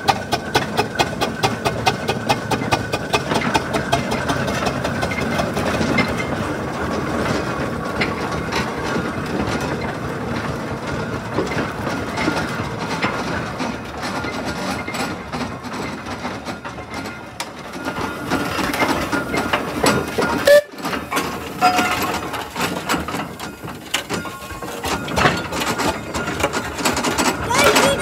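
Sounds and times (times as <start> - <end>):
steam roller engine clatter: 0.0 - 28.0.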